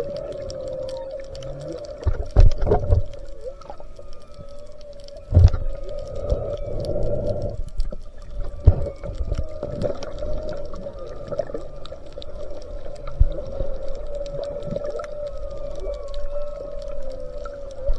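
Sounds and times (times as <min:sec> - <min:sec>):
crackle of small clicks: 0:00.0 - 0:17.9
higher gliding whale calls: 0:00.0 - 0:17.9
whale moaning: 0:00.0 - 0:17.9.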